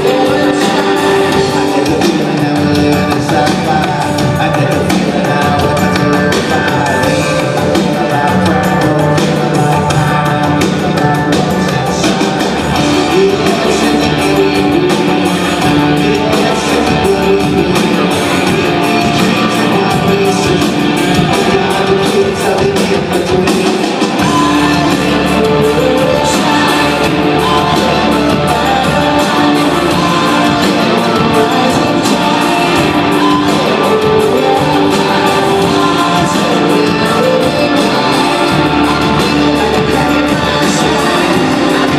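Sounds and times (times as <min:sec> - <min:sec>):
drum kit: 0:00.0 - 0:41.9
guitar: 0:00.0 - 0:41.9
person singing: 0:00.0 - 0:41.9.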